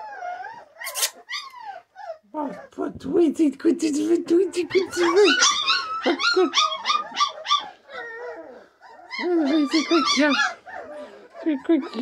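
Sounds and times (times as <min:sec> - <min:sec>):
puppies yipping and whining: 0:00.0 - 0:02.7, 0:04.4 - 0:12.0.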